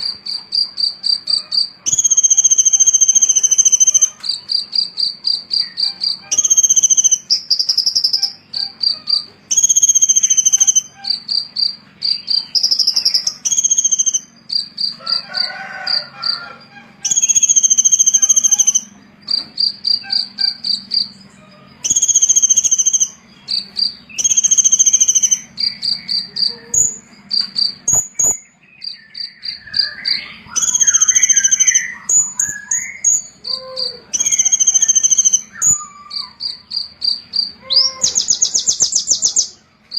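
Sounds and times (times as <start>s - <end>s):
high-pitched cricket-like chirping: 0.0s - 39.6s
lower twittering warbles: 0.0s - 39.6s.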